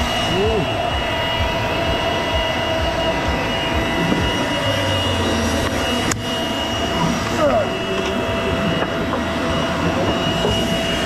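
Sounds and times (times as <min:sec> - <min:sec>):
race car engine idling: 0:00.0 - 0:11.0.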